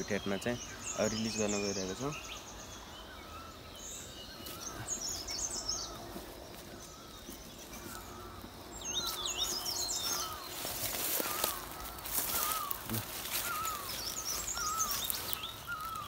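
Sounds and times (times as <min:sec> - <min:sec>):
birds twittering: 0:00.0 - 0:16.0
faint outdoor background: 0:00.0 - 0:16.0
soft warbled bird calls: 0:00.0 - 0:16.0.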